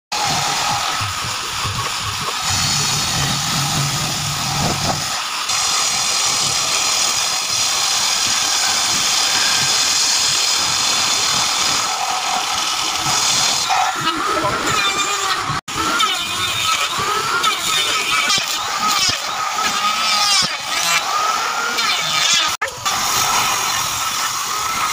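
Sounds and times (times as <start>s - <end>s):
table saw cutting wood: 0.1s - 24.9s.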